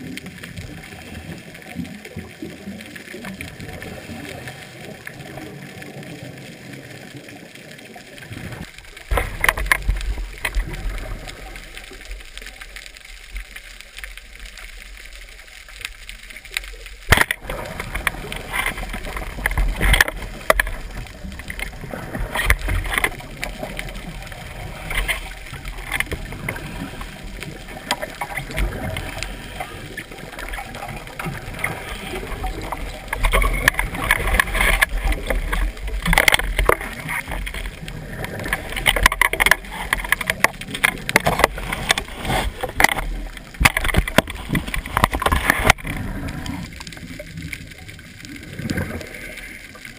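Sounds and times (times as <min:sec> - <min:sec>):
muffled underwater rush: 0:00.0 - 0:49.9.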